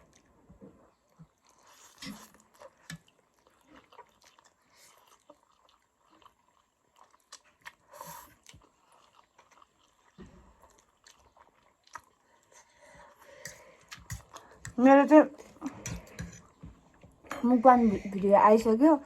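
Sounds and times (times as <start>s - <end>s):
chewing noodles: 0.0s - 17.3s.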